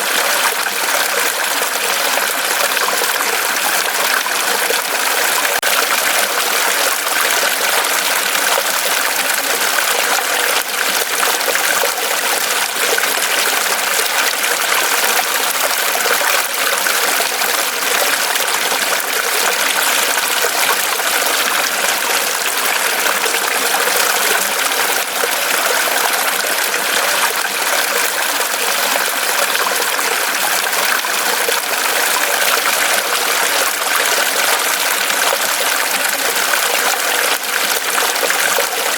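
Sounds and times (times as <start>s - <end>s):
stream running over rocks: 0.0s - 38.9s.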